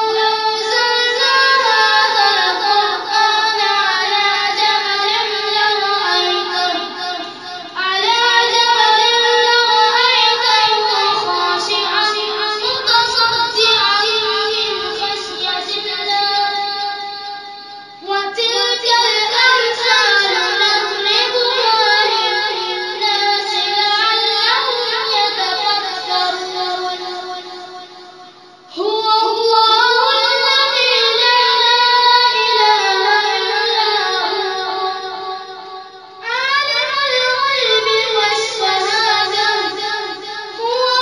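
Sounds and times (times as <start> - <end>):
high voice chanting: 0.0 - 41.0.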